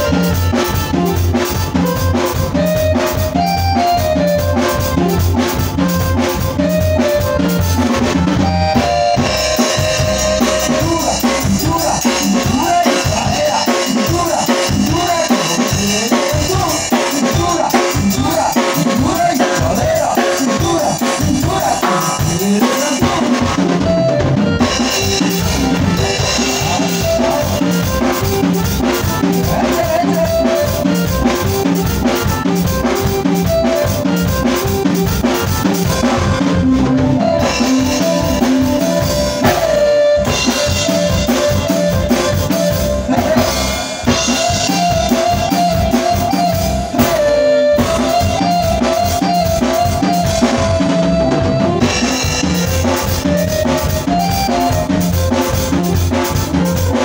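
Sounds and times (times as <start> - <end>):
deep bass: 0.0 - 13.4, 23.0 - 57.0
drum kit steady beat: 0.0 - 57.0
electronic keyboard melody: 0.0 - 57.0.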